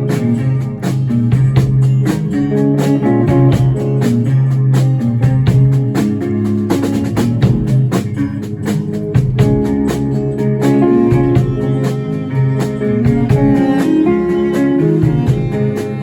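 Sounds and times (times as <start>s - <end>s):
bass guitar: 0.0s - 16.0s
electric guitar: 0.0s - 16.0s
steady drum beat: 0.0s - 16.0s.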